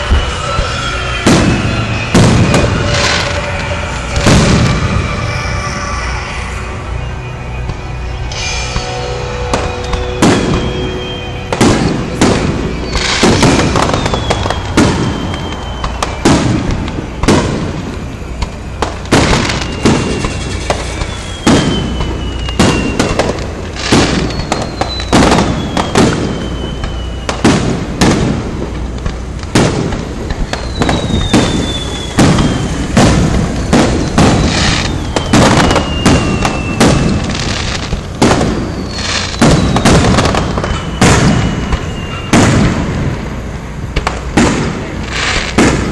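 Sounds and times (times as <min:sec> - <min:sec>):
descending firework whistles: 0:00.0 - 0:45.9
firework shells booming: 0:00.0 - 0:45.9.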